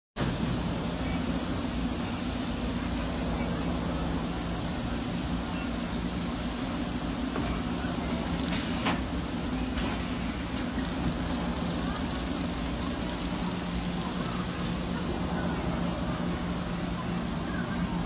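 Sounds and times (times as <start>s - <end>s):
industrial machine hum: 0.2s - 18.0s.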